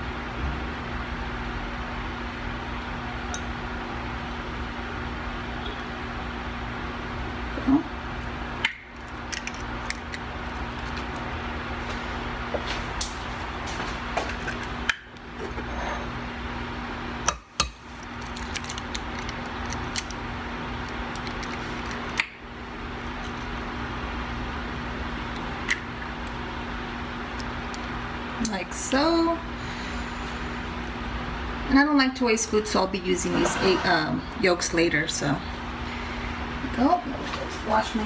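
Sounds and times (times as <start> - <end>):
appliance fan hum: 0.0 - 38.0.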